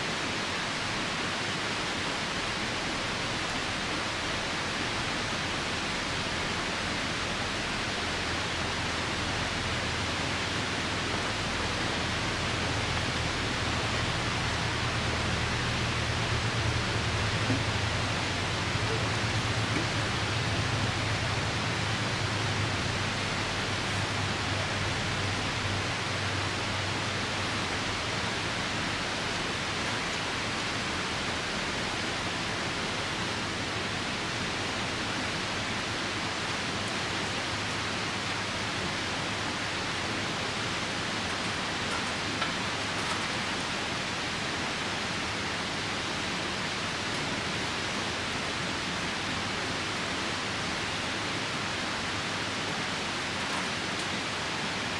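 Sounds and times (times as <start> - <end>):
falling rain: 0.0 - 54.9
river rushing: 0.0 - 54.9.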